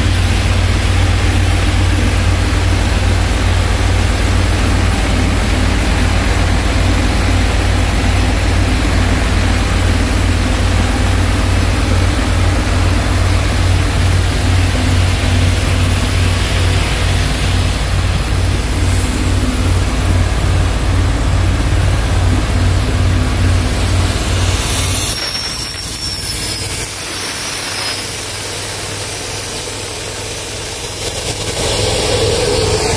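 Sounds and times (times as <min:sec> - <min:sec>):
diesel vacuum pump low hum: 0:00.0 - 0:32.9.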